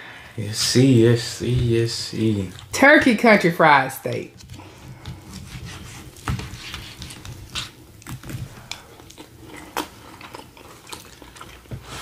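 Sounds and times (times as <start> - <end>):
people chewing: 0.0 - 2.8, 4.3 - 12.0.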